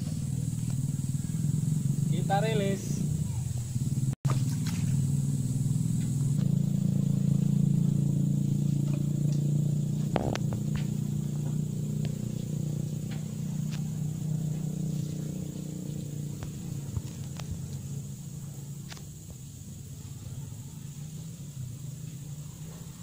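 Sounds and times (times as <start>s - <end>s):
high steady whine: 0.0s - 19.8s
low engine hum: 0.0s - 23.0s.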